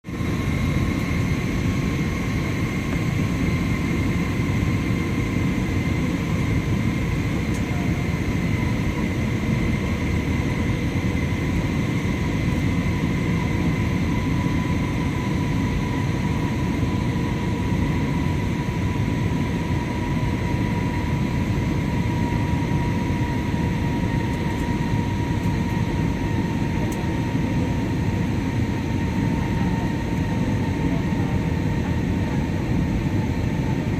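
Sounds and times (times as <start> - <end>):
airliner cabin rumble: 0.1 - 33.9.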